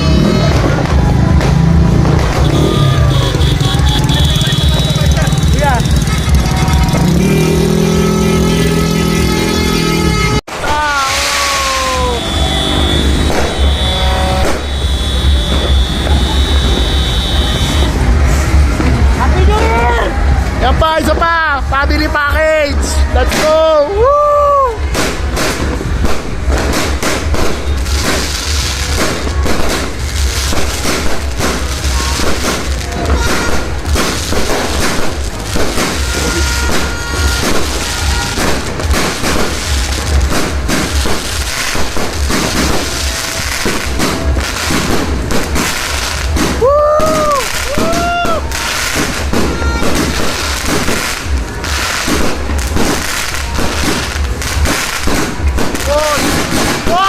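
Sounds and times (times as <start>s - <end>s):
fireworks and firecrackers banging: 0.0s - 57.0s.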